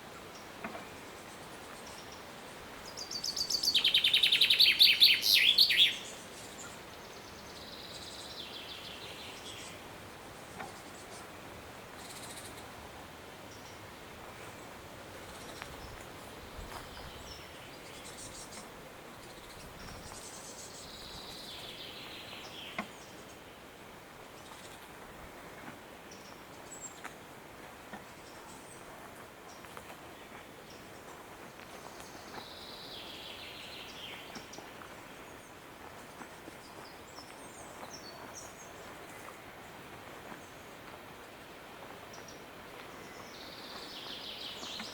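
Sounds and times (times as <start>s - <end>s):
background hiss: 0.0s - 44.9s
songbirds singing: 0.1s - 12.8s, 13.5s - 23.7s, 27.9s - 40.9s, 42.0s - 44.9s.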